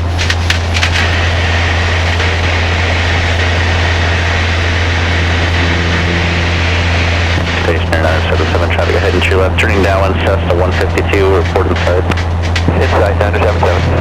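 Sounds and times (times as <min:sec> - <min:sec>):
airplane engine and propeller drone: 0:00.0 - 0:14.0.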